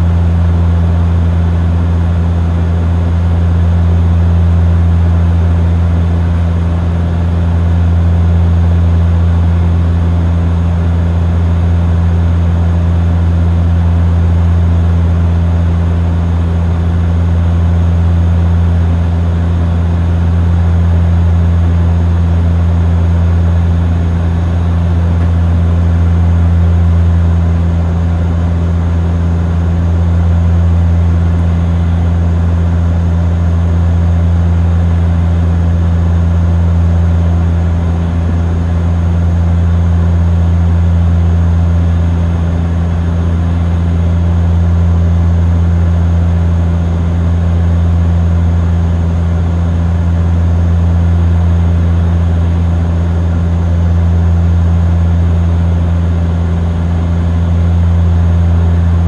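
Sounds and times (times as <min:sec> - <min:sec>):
propeller plane cabin drone: 0:00.0 - 0:59.0.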